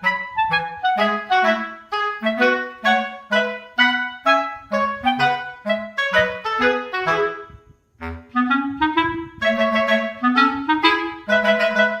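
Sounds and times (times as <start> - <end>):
instrumental melody: 0.0 - 12.0.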